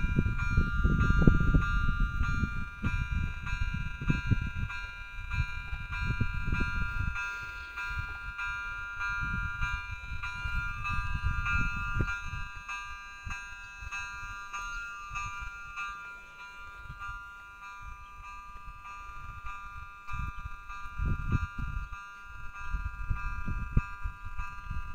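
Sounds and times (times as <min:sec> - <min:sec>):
level crossing warning bell: 0:00.0 - 0:24.9
wind buffeting microphone: 0:00.0 - 0:24.9.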